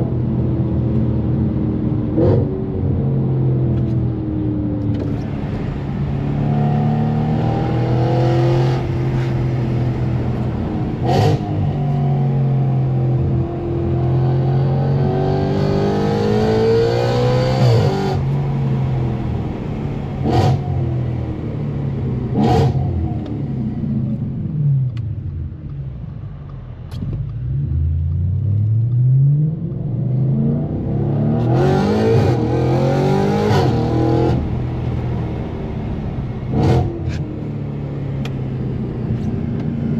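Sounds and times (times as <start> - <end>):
car engine accelerating hard: 0.7 - 25.3, 26.9 - 39.9.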